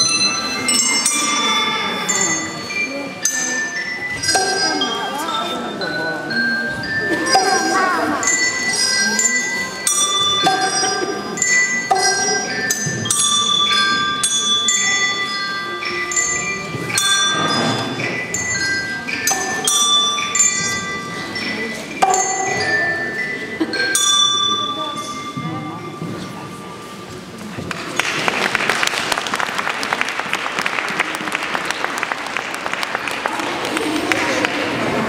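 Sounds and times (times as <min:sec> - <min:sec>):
slow bell melody: 0:00.0 - 0:28.1
faint voices: 0:00.0 - 0:28.3, 0:30.8 - 0:35.0.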